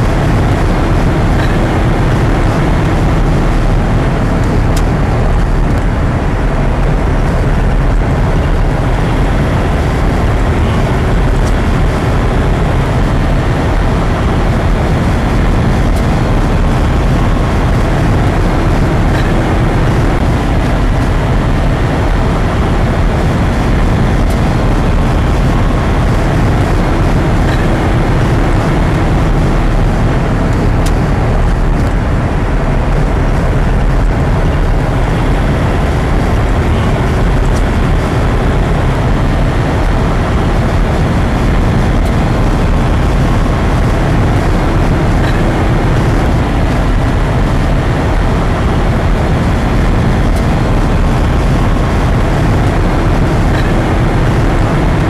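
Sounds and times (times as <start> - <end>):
car interior highway rumble: 0.0 - 55.0.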